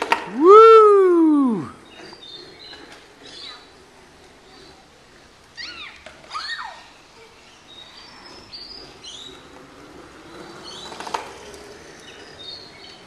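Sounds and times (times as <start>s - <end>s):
wheels rolling on asphalt: 0.0s - 13.0s.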